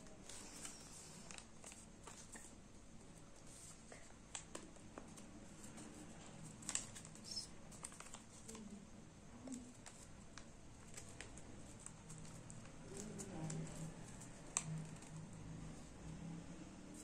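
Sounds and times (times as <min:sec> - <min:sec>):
paper rustling being folded: 0:00.0 - 0:02.5, 0:03.2 - 0:08.8, 0:09.4 - 0:15.4
small paper crackles: 0:00.1 - 0:02.6, 0:03.2 - 0:15.4.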